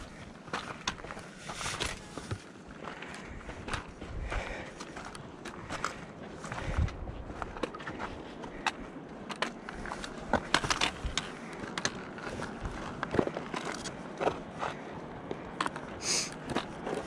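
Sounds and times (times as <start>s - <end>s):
footsteps scuffing over rock: 0.0s - 17.0s.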